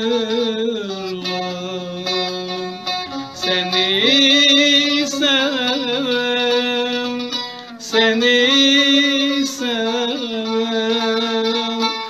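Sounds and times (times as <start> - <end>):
man singing: 0.0 - 12.0
plucked string instrument: 0.0 - 12.0.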